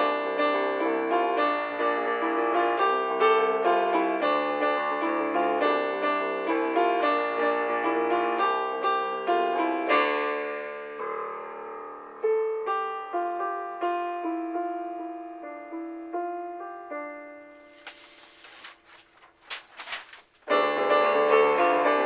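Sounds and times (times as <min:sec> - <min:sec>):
solo piano music: 0:00.0 - 0:19.8, 0:20.4 - 0:22.0.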